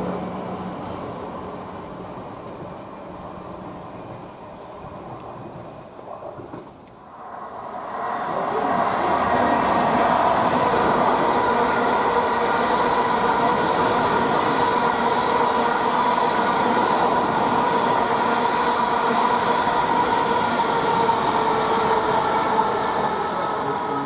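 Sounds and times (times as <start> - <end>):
train wheels rushing on rail: 0.0 - 24.0.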